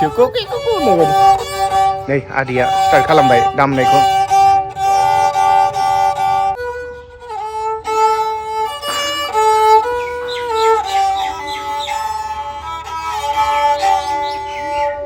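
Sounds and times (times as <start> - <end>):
bowed fiddle melody: 0.0 - 15.0.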